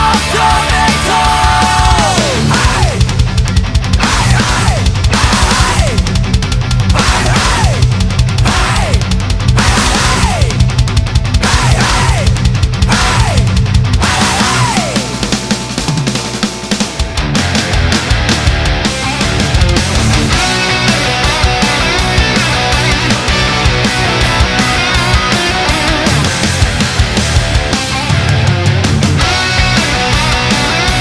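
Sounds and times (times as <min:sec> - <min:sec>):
heavy rock music: 0:00.0 - 0:31.0.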